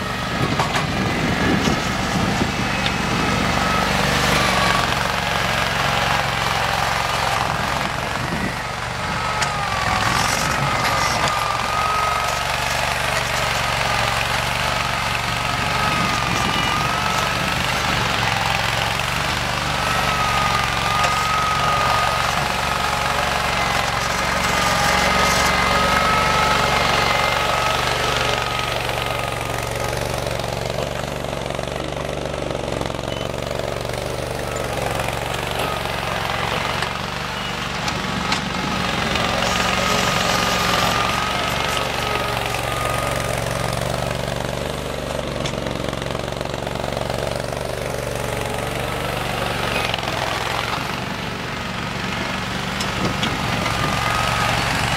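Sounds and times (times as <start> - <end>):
garden tractor engine running: 0.0 - 54.9
wavering engine whine: 0.0 - 54.9.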